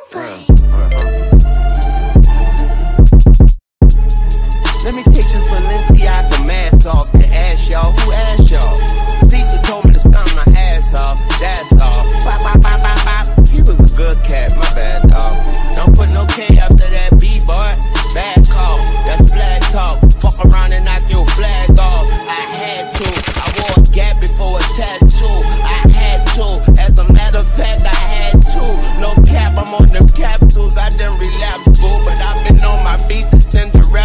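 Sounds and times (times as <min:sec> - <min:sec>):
hip hop music with bass: 0:00.0 - 0:34.0.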